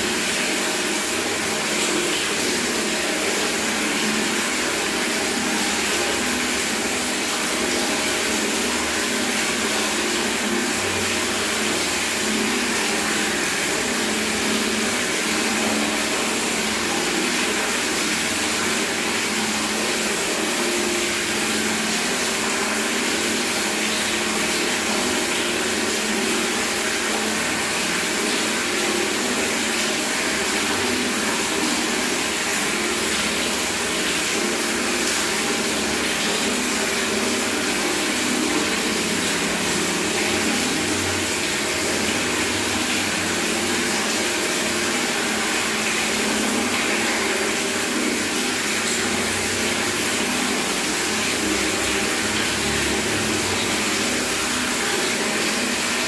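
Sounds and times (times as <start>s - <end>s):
tap water running into bucket: 0.0s - 56.0s.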